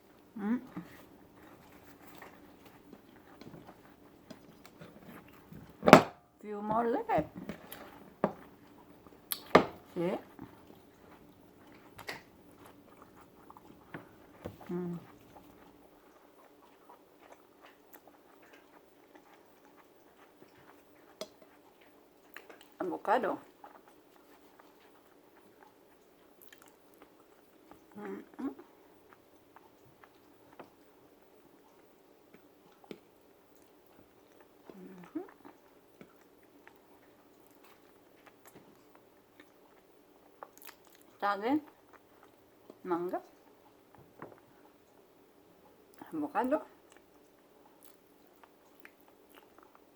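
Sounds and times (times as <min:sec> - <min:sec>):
faint chewing: 0:00.0 - 0:05.9, 0:06.7 - 0:49.9
low steady hum: 0:00.0 - 0:49.9.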